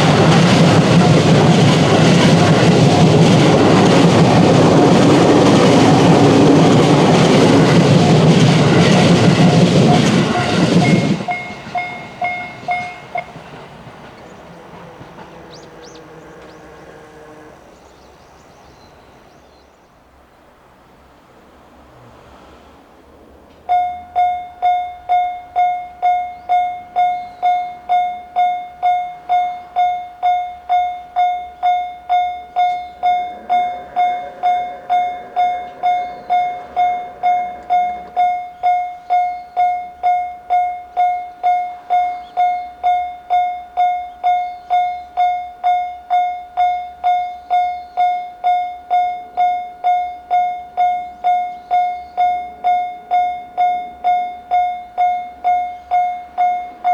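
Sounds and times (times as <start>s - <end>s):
level crossing warning bell: 0.0s - 16.6s, 23.7s - 56.9s.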